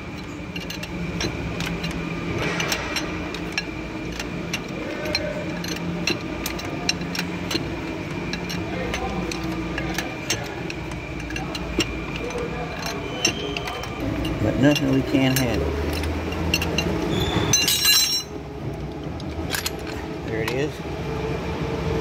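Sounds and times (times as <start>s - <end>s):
wrench metallic clicks: 0.0s - 20.7s
steady shop hum: 0.0s - 22.0s.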